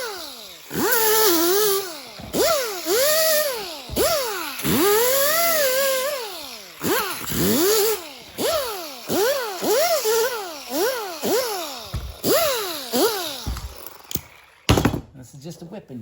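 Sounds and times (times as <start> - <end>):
power tool motor revving: 0.0 - 14.6.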